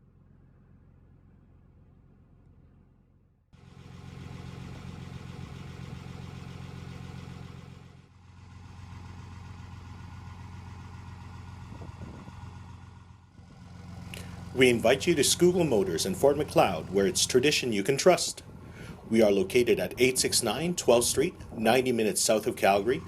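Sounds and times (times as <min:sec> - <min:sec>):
pickup truck engine idling: 0:00.0 - 0:23.0.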